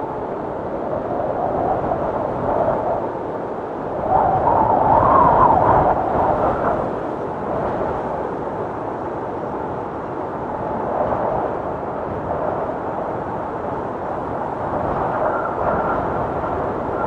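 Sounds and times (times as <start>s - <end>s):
tornado wind rushing: 0.0s - 17.0s.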